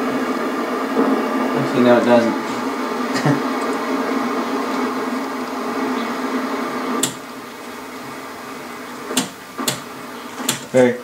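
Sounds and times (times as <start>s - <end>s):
television speaker buzz and static: 0.0s - 11.0s.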